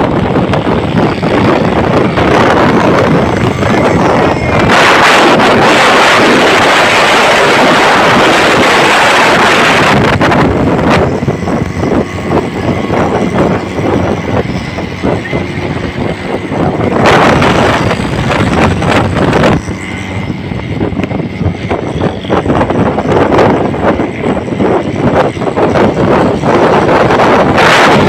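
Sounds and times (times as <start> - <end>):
engines running at speed: 0.0 - 28.0
wind buffeting microphone: 0.0 - 28.0.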